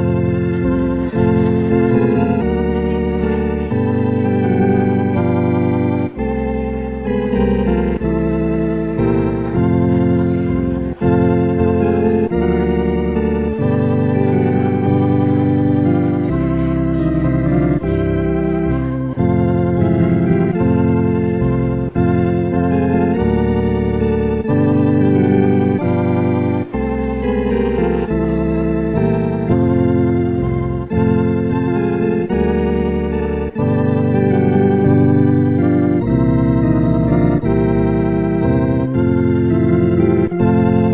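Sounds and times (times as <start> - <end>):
organ playing chords: 0.0 - 40.9.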